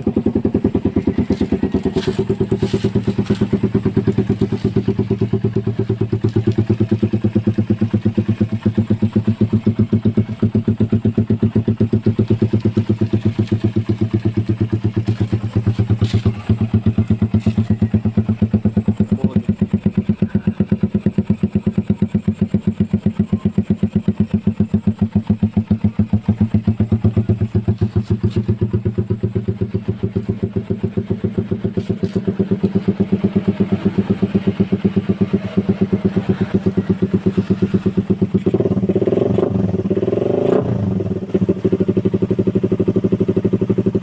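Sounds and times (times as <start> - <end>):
motorcycle engine idling: 0.0 - 44.0.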